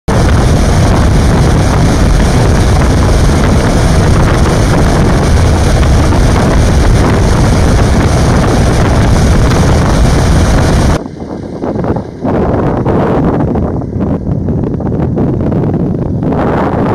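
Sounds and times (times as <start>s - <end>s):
wind buffeting microphone: 0.1s - 16.9s.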